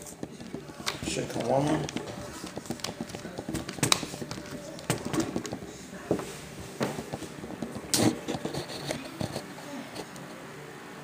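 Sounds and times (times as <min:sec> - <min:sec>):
handling knocks and clicks: 0:00.0 - 0:09.4.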